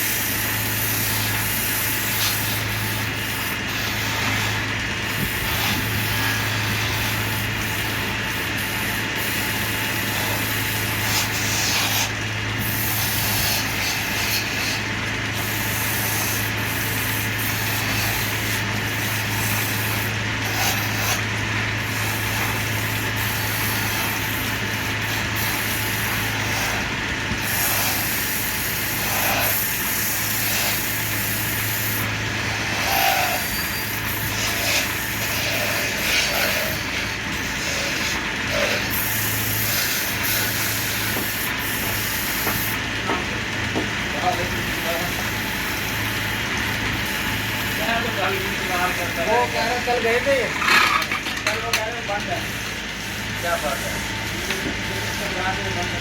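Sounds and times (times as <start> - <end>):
wood scraping hiss: 0.0 - 43.2, 44.1 - 56.0
lathe motor hum: 0.0 - 56.0.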